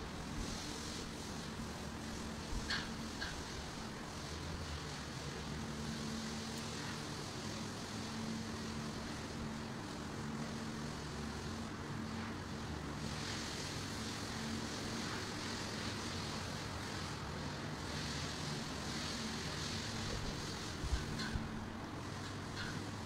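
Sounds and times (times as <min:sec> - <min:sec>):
machinery hiss: 0:00.0 - 0:23.0
milking machinery humming: 0:00.0 - 0:23.0.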